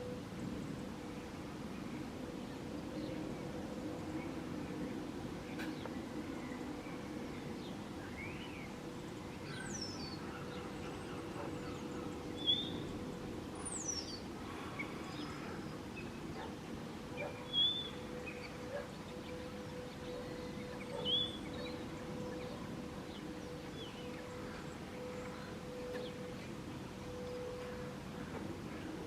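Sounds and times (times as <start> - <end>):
wild birds chirping: 0.0 - 29.0.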